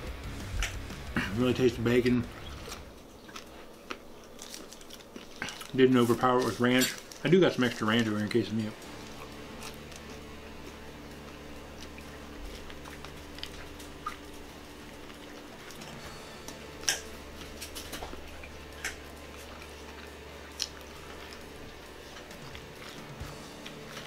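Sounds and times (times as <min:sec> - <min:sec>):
man chewing food: 0:00.0 - 0:01.4, 0:02.2 - 0:24.0
steady low hum: 0:00.0 - 0:24.0.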